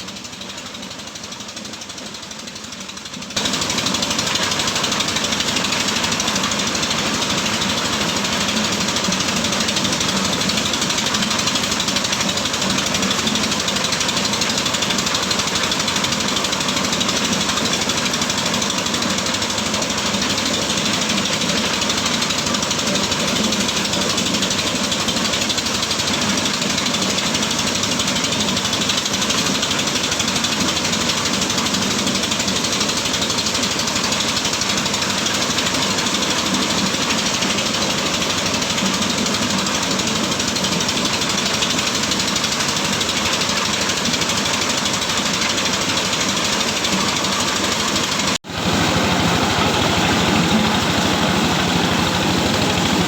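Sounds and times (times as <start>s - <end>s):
corn-shelling machine running: 0.0s - 53.0s.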